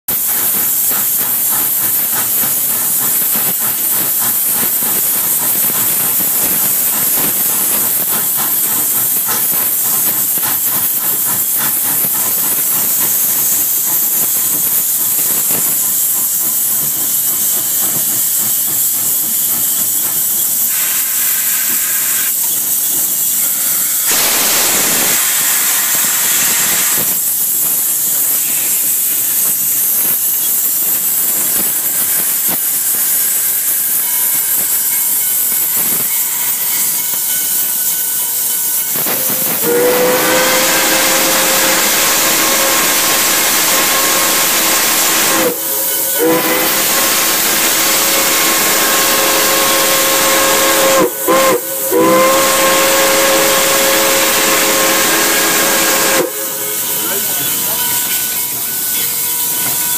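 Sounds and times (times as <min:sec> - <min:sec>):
rhythmic locomotive beat: 0:00.1 - 0:21.2, 0:22.3 - 0:59.9
loud hiss of steam: 0:00.1 - 0:59.9
rush of steam: 0:00.1 - 0:59.9.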